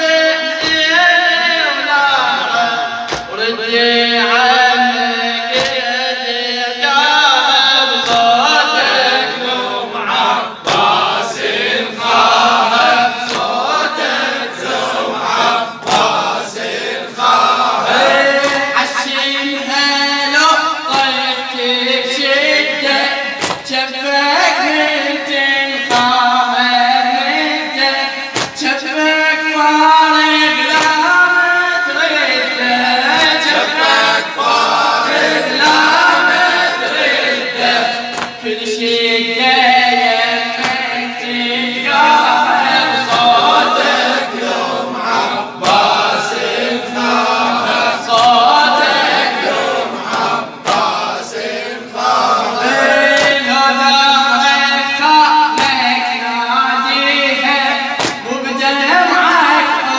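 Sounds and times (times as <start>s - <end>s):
men singing a cappella: 0.0s - 59.9s.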